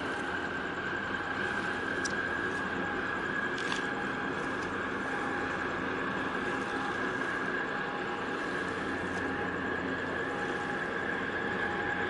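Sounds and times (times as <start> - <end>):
high-pitched machinery whine: 0.0 - 12.0
ship engine low drone: 0.0 - 12.0.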